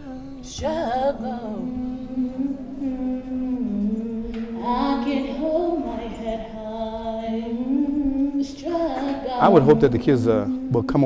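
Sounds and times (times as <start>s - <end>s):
voices singing in harmony: 0.0s - 11.0s.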